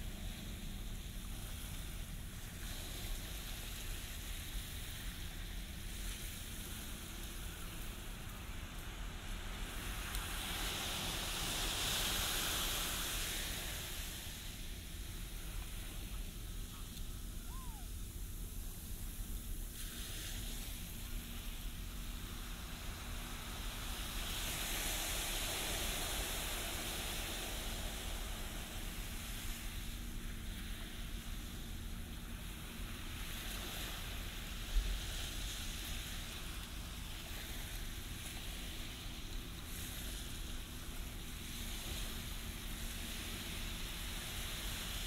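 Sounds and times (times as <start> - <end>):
waves breaking on a beach: 0.0 - 45.0
wind rumble on microphone: 0.0 - 45.0.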